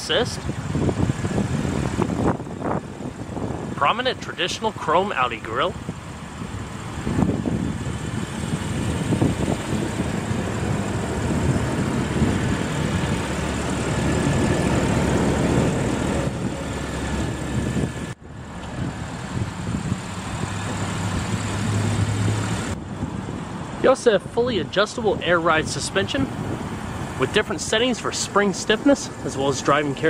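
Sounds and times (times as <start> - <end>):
rushing outdoor noise: 0.0 - 30.0
car idling: 0.6 - 30.0.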